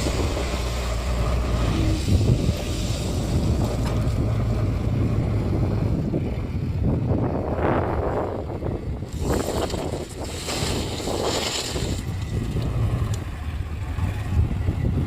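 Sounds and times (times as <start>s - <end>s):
diesel engine running: 0.0s - 15.0s
wind noise on microphone: 0.0s - 15.0s.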